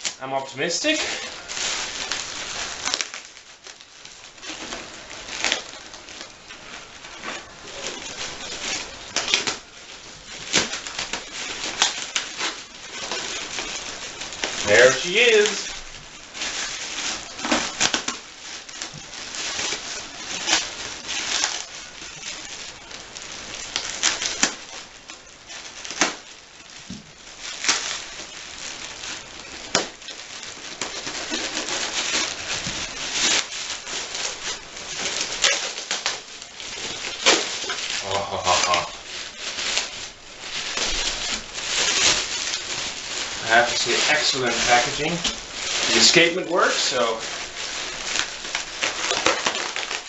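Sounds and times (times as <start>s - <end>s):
packing material rustling: 0.0s - 50.0s.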